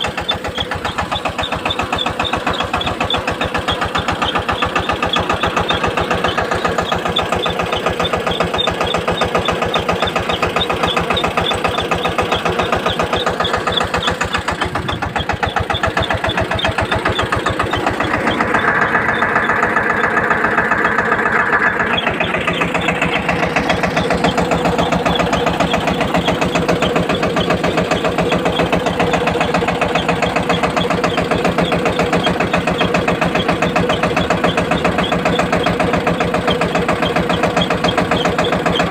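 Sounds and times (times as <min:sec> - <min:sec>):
high steady whine: 0:00.0 - 0:36.9
tractor engine running: 0:00.0 - 0:38.9.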